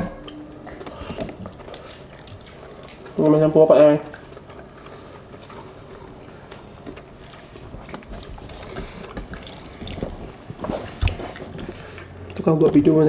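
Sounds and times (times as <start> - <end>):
chewing and mouth clicks: 0.2 - 3.4, 4.1 - 12.5.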